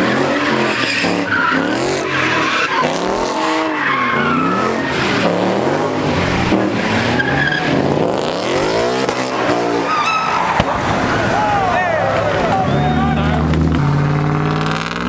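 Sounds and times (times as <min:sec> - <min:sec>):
car engine revving hard: 0:00.0 - 0:15.0
tires squealing: 0:00.0 - 0:15.0.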